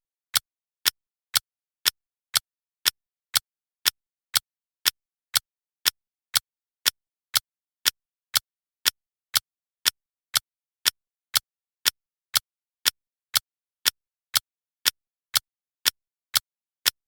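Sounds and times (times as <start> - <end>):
timer ticking: 0.0 - 17.0.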